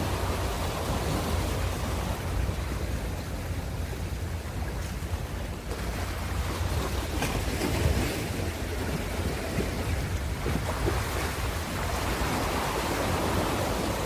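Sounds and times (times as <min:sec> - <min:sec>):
ocean waves breaking on shore: 0:00.0 - 0:14.0.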